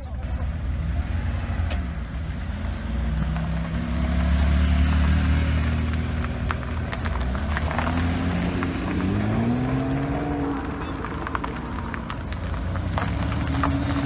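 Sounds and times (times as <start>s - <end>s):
car engine running: 0.0s - 14.0s
road noise: 0.0s - 14.0s.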